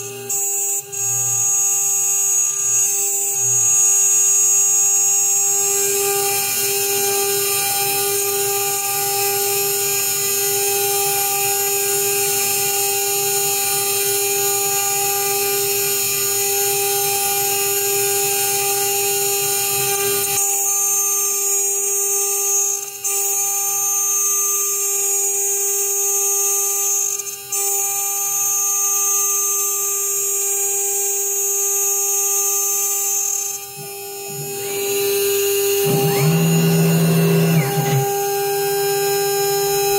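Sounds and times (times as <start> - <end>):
router spindle whine: 0.0 - 25.0, 30.2 - 39.9.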